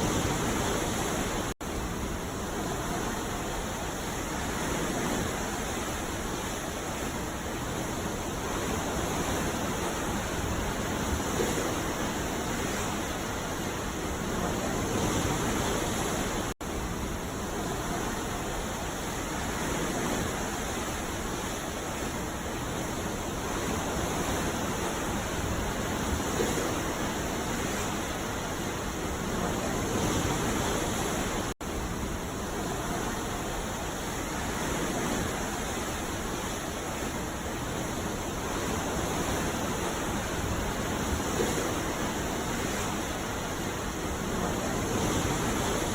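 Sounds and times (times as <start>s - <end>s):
ocean surf washing onto beach: 0.0s - 45.9s.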